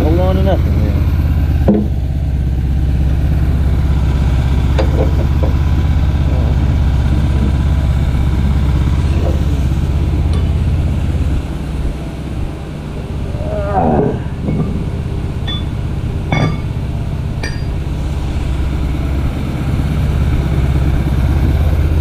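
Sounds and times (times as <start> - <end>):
motor running with pulsing hum: 0.0 - 22.0.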